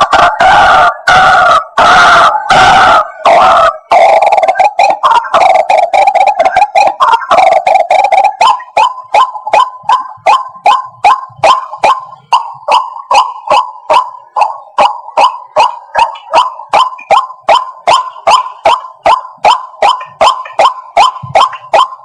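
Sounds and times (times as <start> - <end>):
waterhen croaking calls: 0.0 - 22.0.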